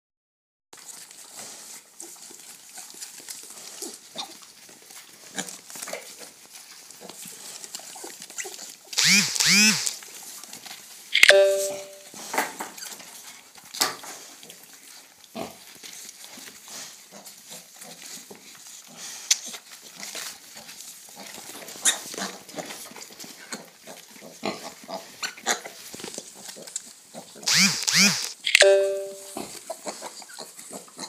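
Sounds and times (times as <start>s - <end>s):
piglets grunting and snuffling: 0.9s - 9.0s, 12.0s - 27.5s, 29.3s - 31.0s.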